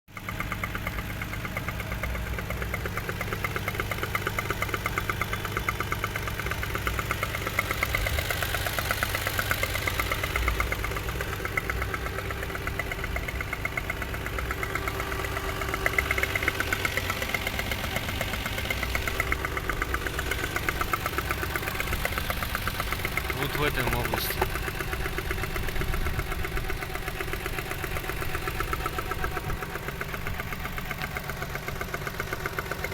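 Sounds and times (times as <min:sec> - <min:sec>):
knocking engine idling: 0:00.1 - 0:32.9.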